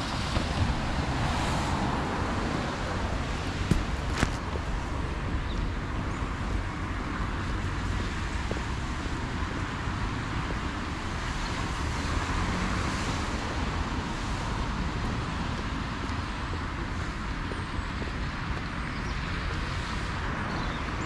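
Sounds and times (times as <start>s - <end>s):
traffic tyres on wet road: 0.0s - 21.0s.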